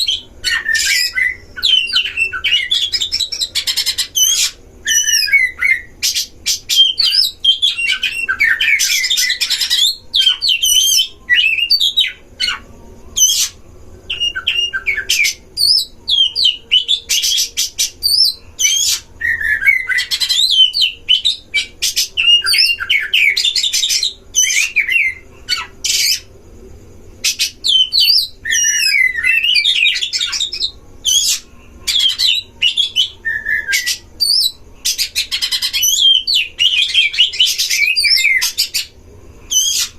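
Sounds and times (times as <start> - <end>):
bird song with whistled phrases: 0.0 - 26.3, 27.2 - 39.9.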